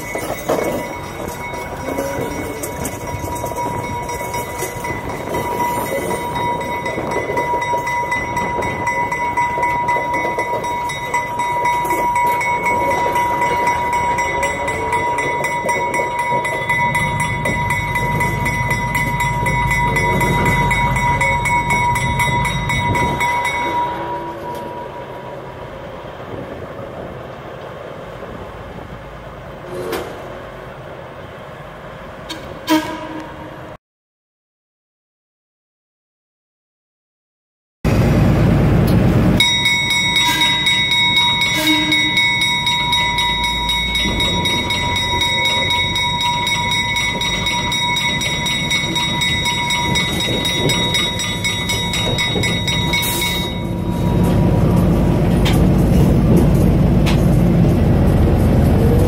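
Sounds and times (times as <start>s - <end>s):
locomotive engine rumble: 0.0s - 33.7s, 37.9s - 59.0s.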